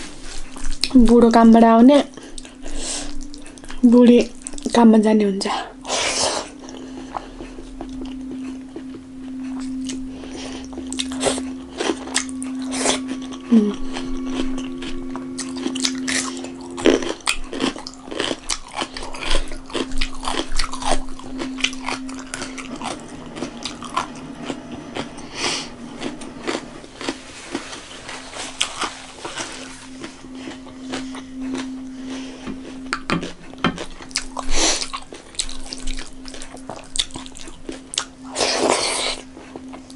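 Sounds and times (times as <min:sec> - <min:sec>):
low hum: 0:00.0 - 0:39.9
person chewing food: 0:00.0 - 0:39.9.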